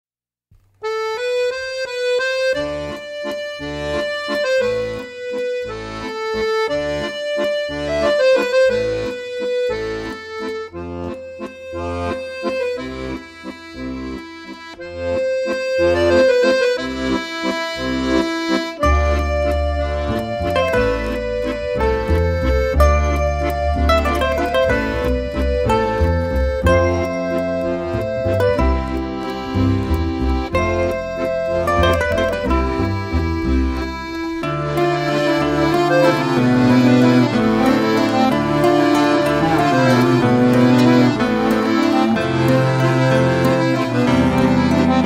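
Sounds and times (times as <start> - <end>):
instrumental background music: 0.7 - 45.0.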